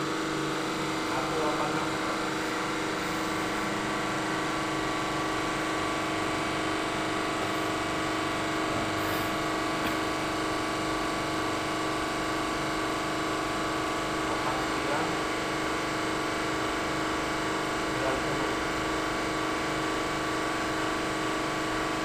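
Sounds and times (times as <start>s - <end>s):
testing machine humming: 0.0s - 20.1s.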